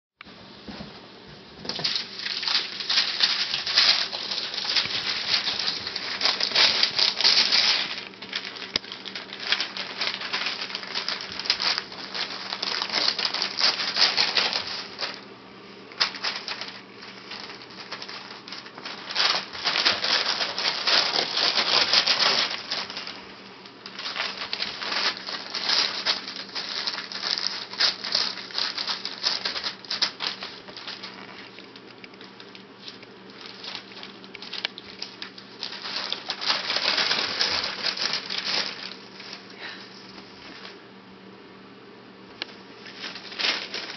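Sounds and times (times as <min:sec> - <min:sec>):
newspaper rustling and crinkling: 0:01.7 - 0:15.3, 0:16.0 - 0:40.8, 0:42.5 - 0:43.9
puppy scrambling over paper: 0:01.7 - 0:15.3, 0:16.0 - 0:40.8, 0:42.8 - 0:43.9.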